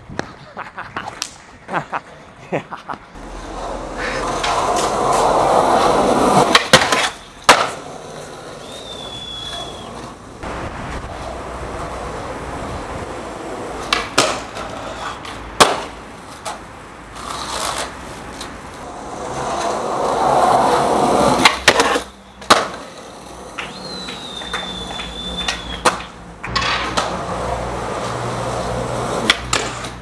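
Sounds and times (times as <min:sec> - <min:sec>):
skateboard wheels rolling on stone: 0:00.2 - 0:30.0
skateboard popping and landing: 0:03.3 - 0:12.3, 0:13.2 - 0:30.0.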